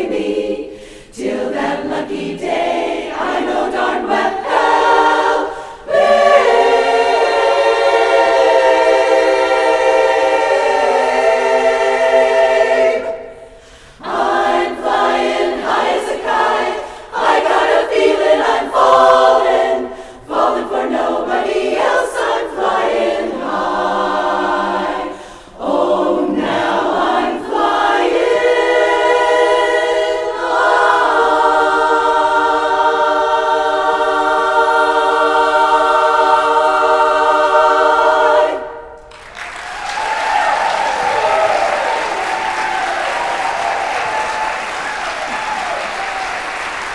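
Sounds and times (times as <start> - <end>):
women's chorus singing a cappella: 0.0 - 39.1.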